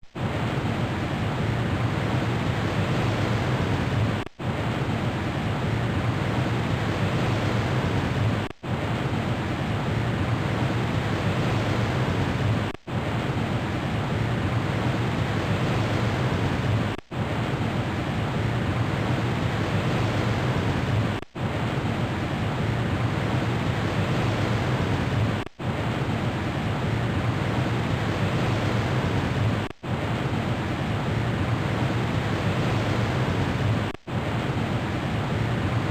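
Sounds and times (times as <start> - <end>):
ocean surf rushing hiss: 0.2 - 35.9.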